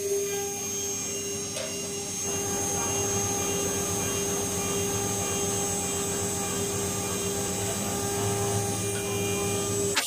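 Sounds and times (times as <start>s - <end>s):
router spindle whine: 0.0s - 10.0s.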